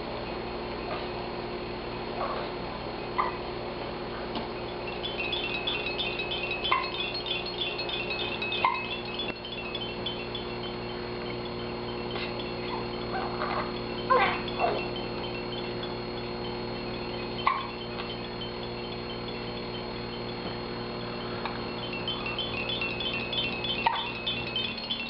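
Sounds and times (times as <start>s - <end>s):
tinkling chime tune: 4.6s - 25.0s.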